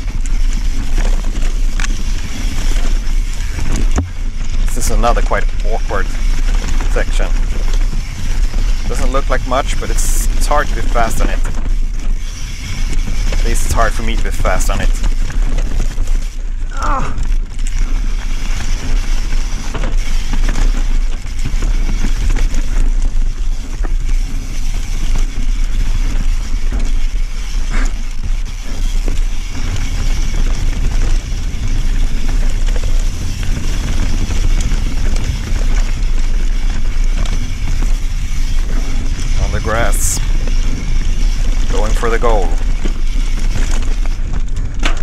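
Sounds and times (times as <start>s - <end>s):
bike rattling over bumps: 0.0s - 45.0s
bike tyres rolling on dirt: 0.0s - 45.0s
wind rush on microphone: 0.0s - 45.0s.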